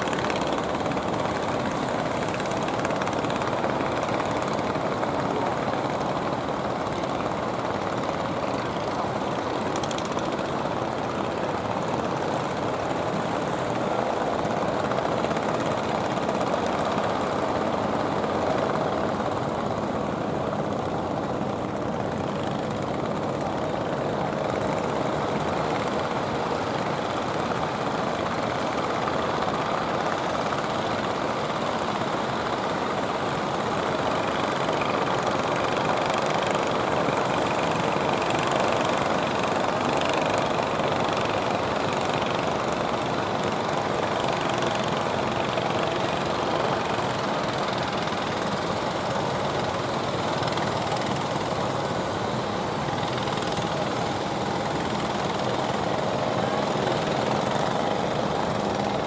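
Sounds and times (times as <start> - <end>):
boat engines running: 0.0 - 59.0.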